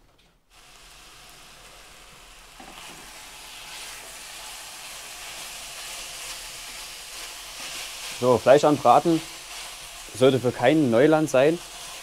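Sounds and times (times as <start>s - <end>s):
meat sizzling in a pot: 0.5s - 12.0s.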